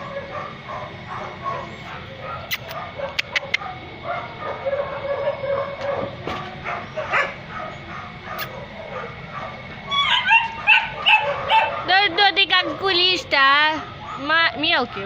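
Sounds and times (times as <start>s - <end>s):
dogs whimpering: 0.0s - 14.5s
dogs barking and yipping: 0.0s - 15.0s.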